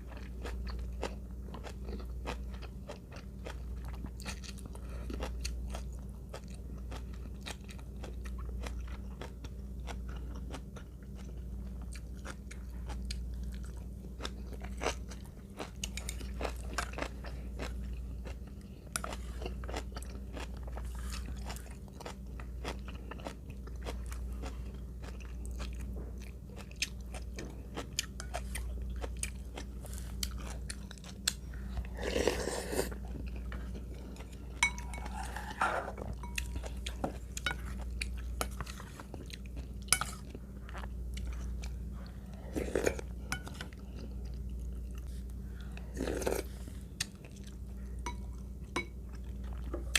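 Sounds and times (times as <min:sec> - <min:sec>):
chewing and crunching food: 0:00.0 - 0:49.9
steady low hum: 0:00.0 - 0:49.9.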